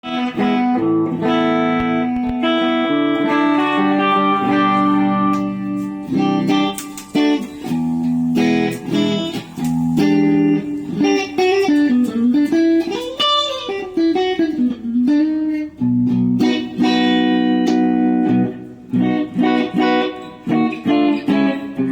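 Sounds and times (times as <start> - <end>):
electric guitar playing: 0.0 - 21.9.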